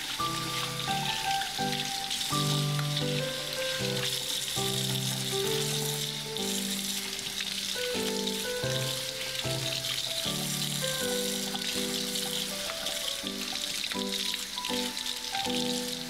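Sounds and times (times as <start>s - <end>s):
background music melody: 0.0s - 16.0s
tap water splashing over greens: 0.0s - 16.0s.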